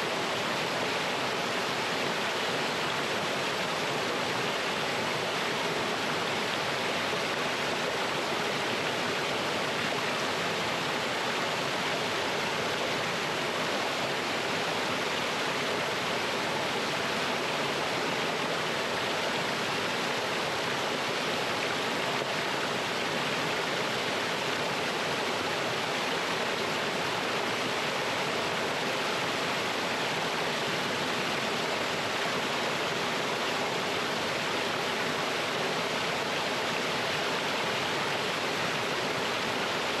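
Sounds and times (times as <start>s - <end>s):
stream splashing over rocks: 0.0s - 40.0s.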